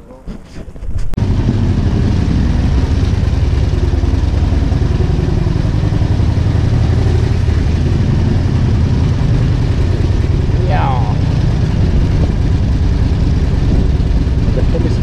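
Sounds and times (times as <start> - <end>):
motorcycle engine running: 1.2 - 15.0.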